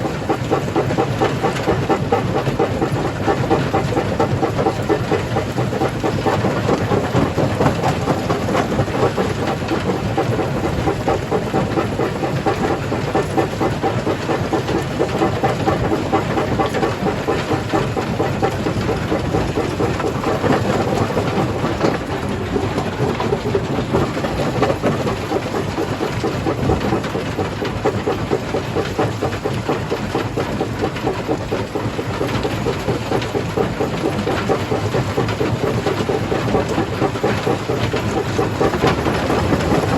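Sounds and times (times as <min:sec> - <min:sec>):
crusher machine rumble: 0:00.0 - 0:39.9.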